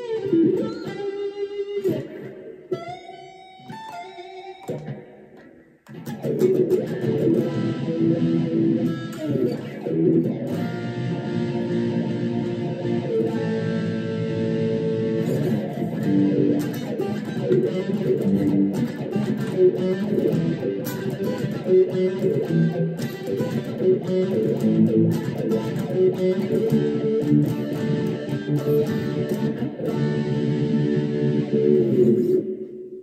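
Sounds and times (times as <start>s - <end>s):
electric guitar with wah pedal: 0.0s - 32.8s.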